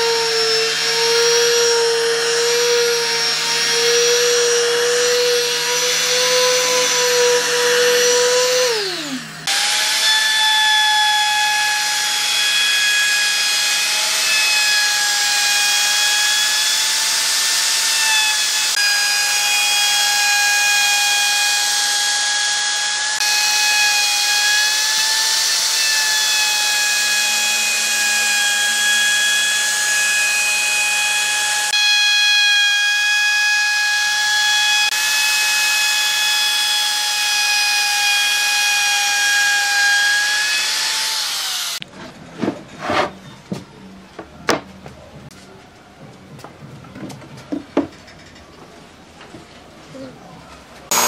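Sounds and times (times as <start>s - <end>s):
router whining: 0.0s - 41.9s.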